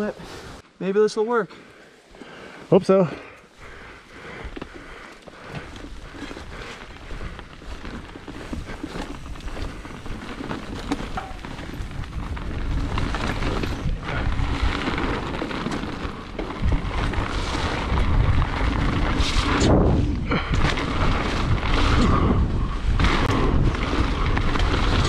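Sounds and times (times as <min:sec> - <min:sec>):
bike tyres hissing and rattling: 0:01.7 - 0:25.0
wind buffeting microphone: 0:03.7 - 0:25.0.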